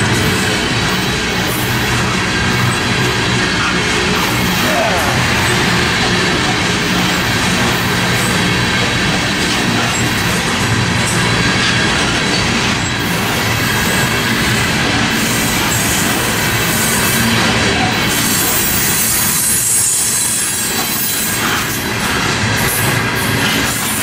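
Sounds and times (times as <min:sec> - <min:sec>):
steel wheels rumbling on rail: 0:00.0 - 0:24.0.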